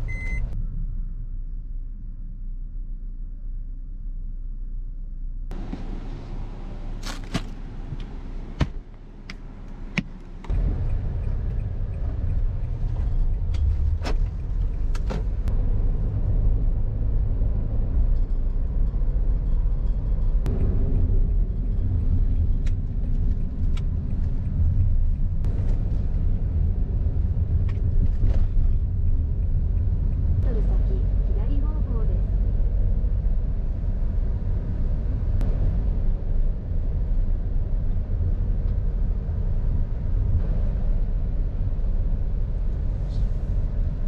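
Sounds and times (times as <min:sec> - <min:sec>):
car engine and tyre rumble: 0:00.0 - 0:44.0.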